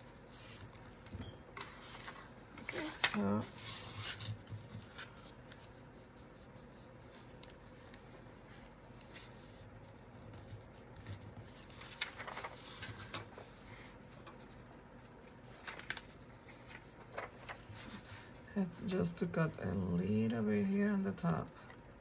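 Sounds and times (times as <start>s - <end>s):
paper crinkling: 0.0s - 19.2s
paper rustling: 0.0s - 19.3s.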